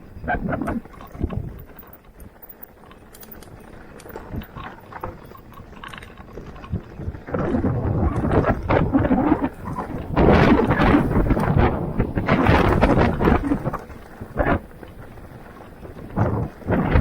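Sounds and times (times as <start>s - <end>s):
bike knocking and rattling: 0.0s - 17.0s
bike tyres crunching on dirt: 0.0s - 17.0s.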